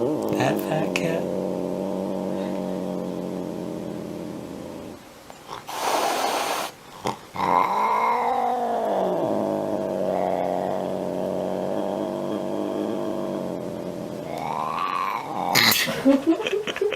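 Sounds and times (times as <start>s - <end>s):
cat growling yowl: 0.0s - 5.0s, 5.6s - 15.9s
cat hissing: 0.0s - 16.0s.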